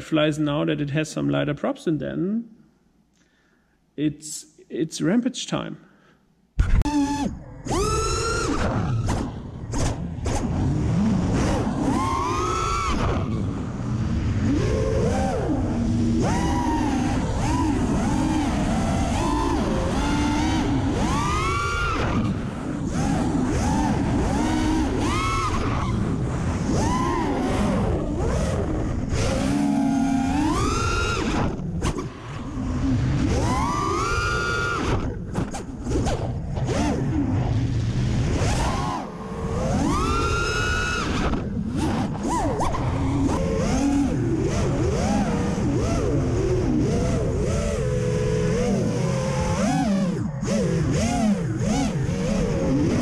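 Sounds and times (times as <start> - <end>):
drone motors whining: 6.6 - 53.0.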